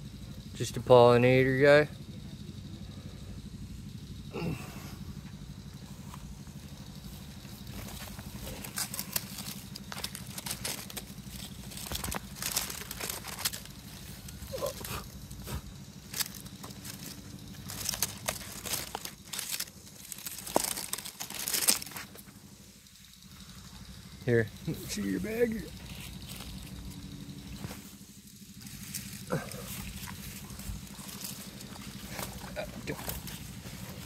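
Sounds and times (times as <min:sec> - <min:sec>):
low motor hum: 0:00.0 - 0:34.0
leaves and canes rustling: 0:05.4 - 0:34.0.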